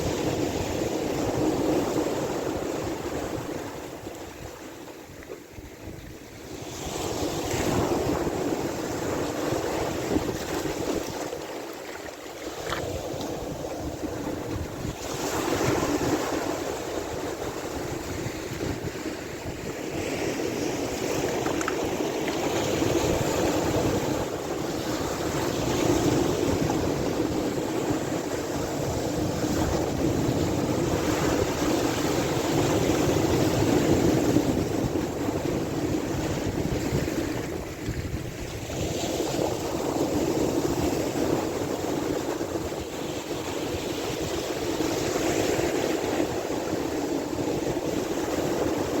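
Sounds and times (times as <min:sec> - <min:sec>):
sea waves rushing: 0:00.0 - 0:49.0
wind: 0:00.0 - 0:49.0.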